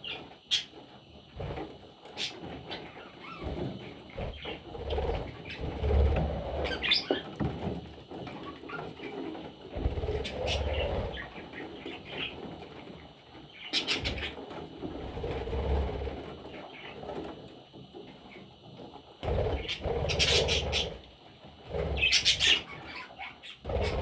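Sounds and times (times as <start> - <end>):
bird chicks chirping: 0.0 - 7.5, 8.1 - 17.4, 19.2 - 21.1, 21.7 - 24.0
rustling and fluttering: 0.5 - 24.0.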